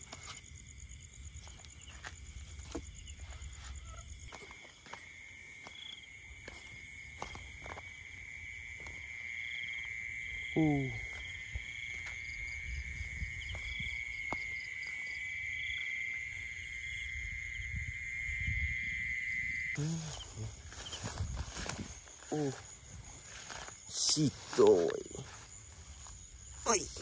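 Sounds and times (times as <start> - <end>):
insect trills: 0.0 - 27.0
insects buzzing: 0.0 - 27.0.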